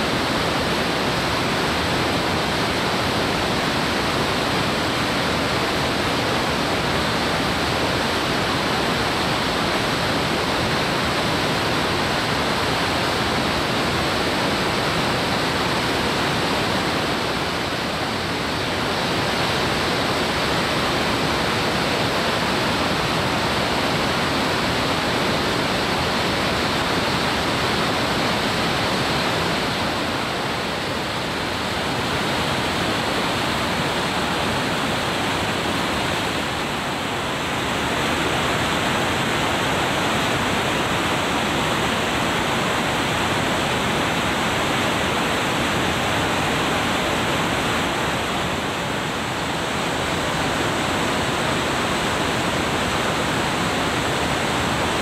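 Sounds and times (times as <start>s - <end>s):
river rushing over boulders: 0.0s - 55.0s.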